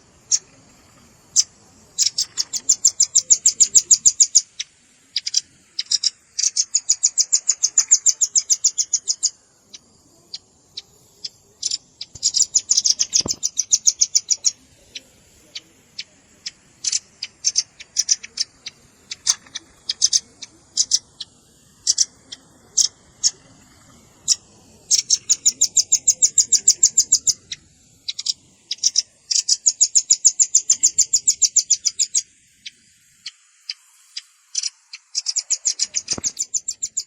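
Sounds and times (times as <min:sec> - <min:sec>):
bird chattering chip notes: 0:01.3 - 0:37.0.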